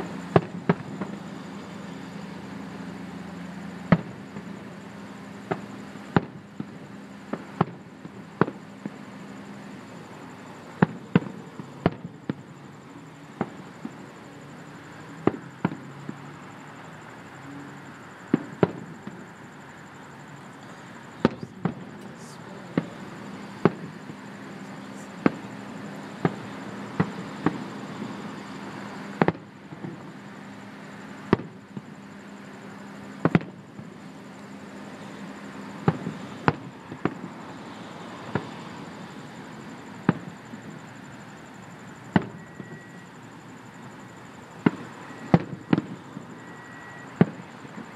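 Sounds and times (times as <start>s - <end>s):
fireworks bursting: 0.0s - 47.9s
steady low hum: 0.0s - 47.9s.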